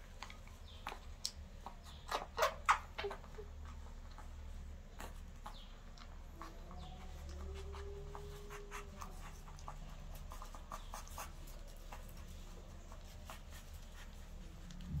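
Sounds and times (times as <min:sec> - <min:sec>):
puppies suckling wet clicks: 0:00.0 - 0:14.9.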